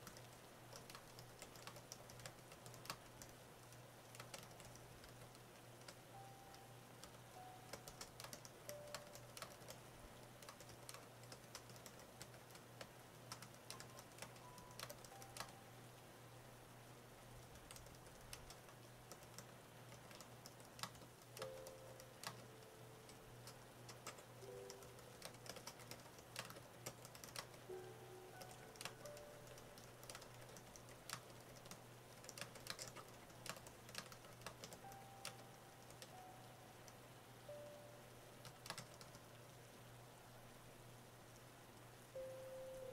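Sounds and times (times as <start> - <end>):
keystroke clicks: 0.0 - 15.6, 17.4 - 37.8, 38.4 - 39.2.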